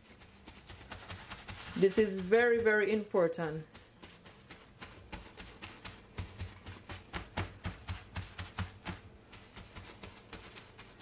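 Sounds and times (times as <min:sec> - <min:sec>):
paper towel patting fish: 0:00.0 - 0:11.0.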